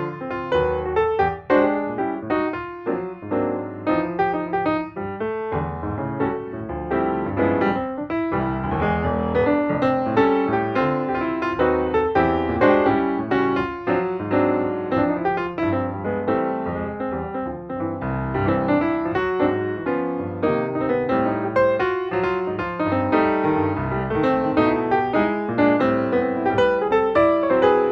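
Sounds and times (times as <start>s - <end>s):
piano music: 0.0s - 27.9s.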